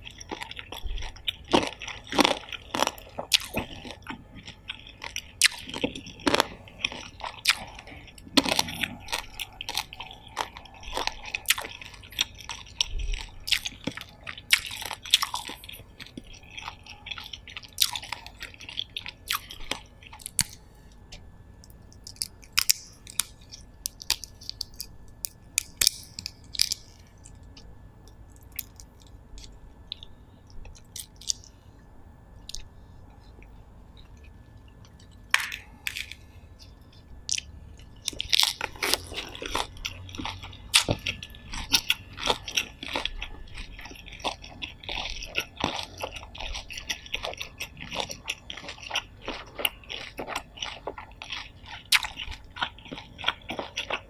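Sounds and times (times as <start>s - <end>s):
close chewing and crunching: 0.0s - 54.0s.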